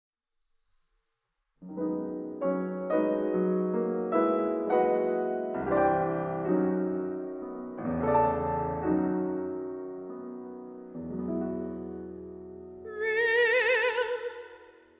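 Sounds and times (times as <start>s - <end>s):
piano chords: 1.6s - 14.1s.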